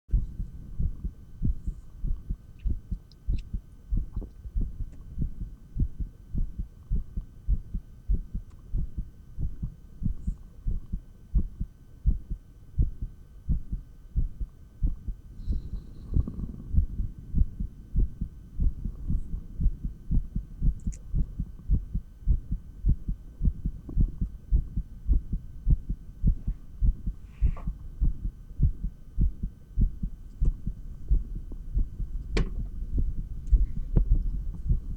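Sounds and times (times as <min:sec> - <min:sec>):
fast heartbeat thuds: 0:00.1 - 0:34.9.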